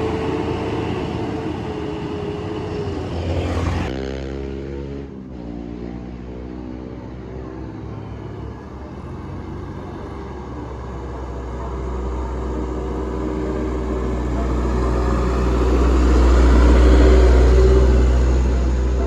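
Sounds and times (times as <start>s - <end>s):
bus engine rumble: 0.0s - 3.9s, 5.6s - 19.0s
road noise: 0.0s - 19.0s.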